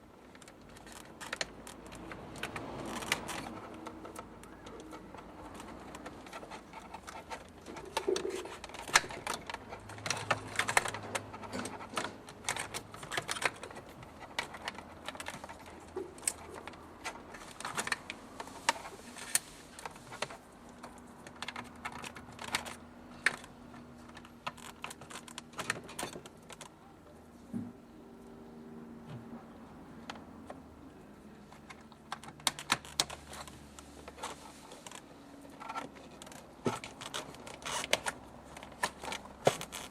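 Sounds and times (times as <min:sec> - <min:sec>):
small hard parts clicking: 0:00.0 - 0:26.8, 0:31.4 - 0:39.9.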